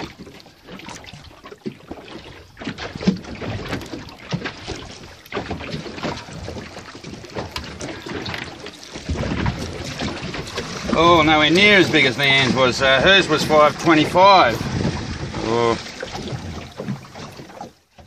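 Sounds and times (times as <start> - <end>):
water noise: 0.0 - 18.0
wind: 0.0 - 18.0.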